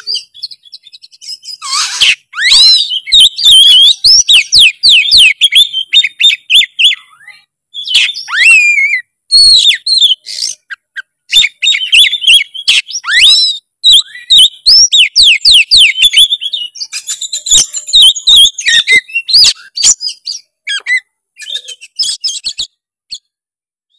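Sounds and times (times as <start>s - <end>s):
magpie-robin singing: 0.0s - 23.4s.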